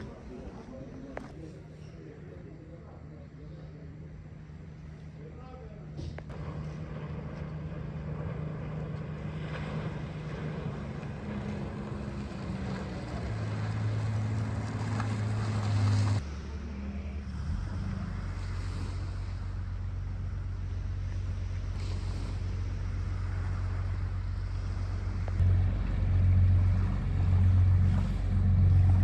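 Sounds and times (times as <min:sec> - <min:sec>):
boat engine humming: 0:00.0 - 0:29.0.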